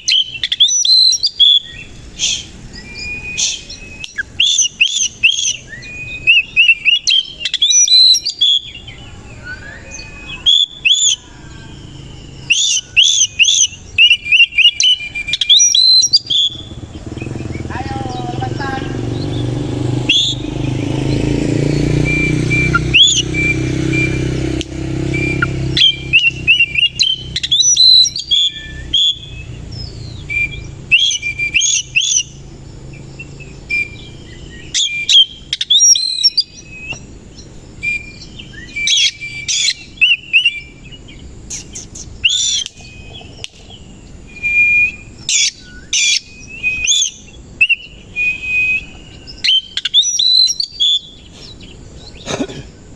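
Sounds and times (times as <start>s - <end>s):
bird singing whistled notes: 0.0s - 52.9s.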